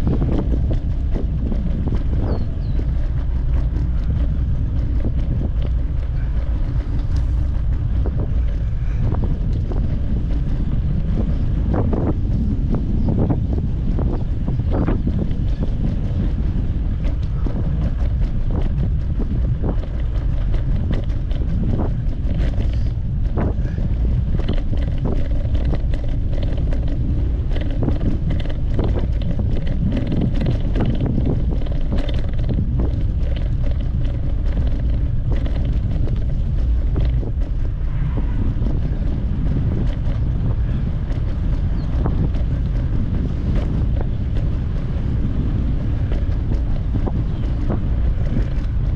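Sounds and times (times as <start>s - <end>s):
bicycle clicks and rattles: 0.0s - 48.9s
wind buffeting microphone: 0.0s - 48.9s.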